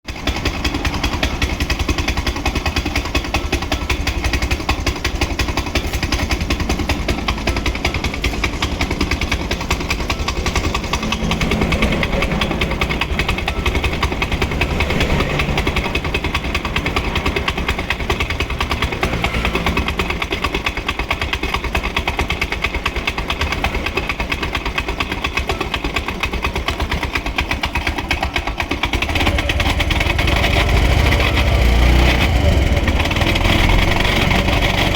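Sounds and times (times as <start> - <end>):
car engine clattering: 0.1 - 34.9.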